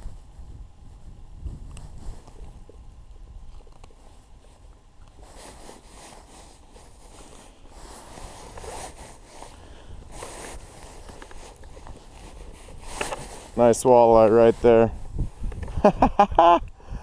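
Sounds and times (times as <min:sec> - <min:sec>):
rustling and scraping handling noise: 0:00.0 - 0:15.6.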